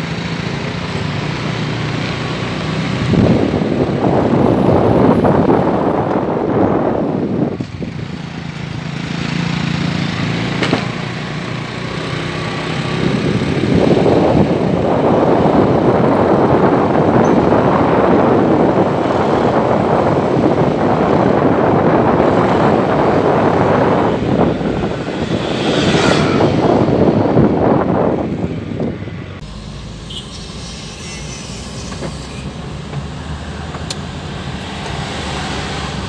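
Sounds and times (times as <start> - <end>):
road vehicle rushing noise: 0.0 - 36.0.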